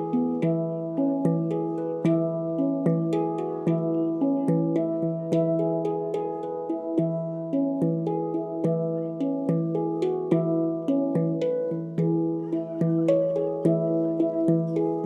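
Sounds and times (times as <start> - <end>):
handpan notes ringing: 0.0 - 15.0.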